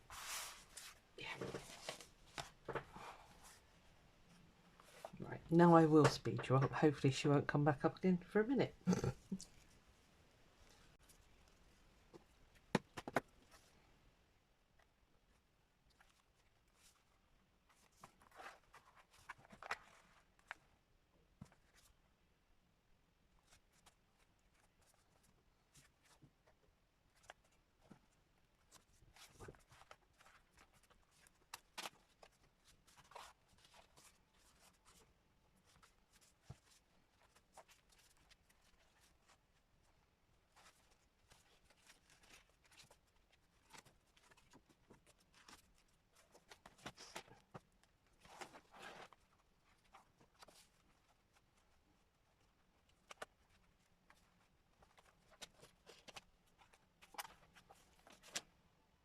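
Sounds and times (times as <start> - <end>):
paper and thread rustling: 0.0 - 3.7, 4.3 - 7.0, 14.8 - 22.0, 23.3 - 58.6.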